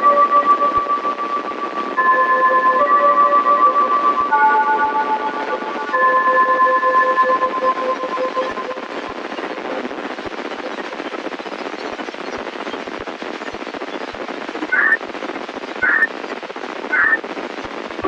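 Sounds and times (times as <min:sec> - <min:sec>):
radio hiss and crackling static: 0:00.0 - 0:18.0.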